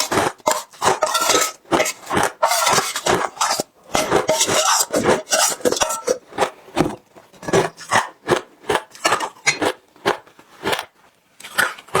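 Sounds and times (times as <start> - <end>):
crunching and chewing ice: 0.0 - 12.0.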